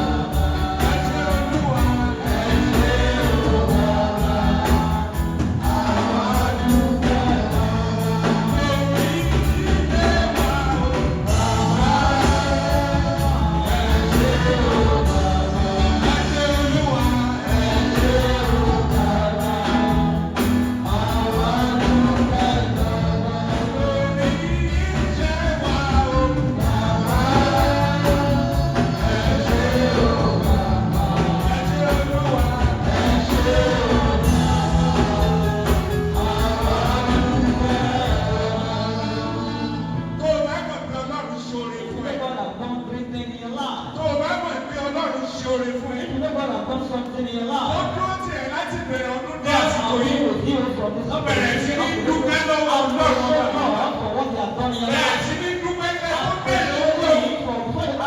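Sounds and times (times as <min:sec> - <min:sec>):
gospel choir singing over a beat: 0:00.0 - 0:58.0.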